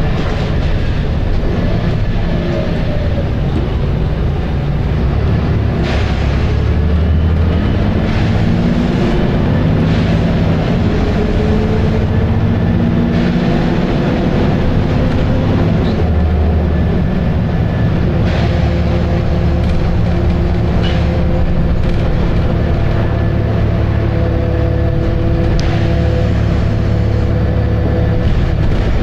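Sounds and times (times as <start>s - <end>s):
bus body rattle: 0.0s - 29.0s
bus engine rough drone: 0.0s - 29.0s.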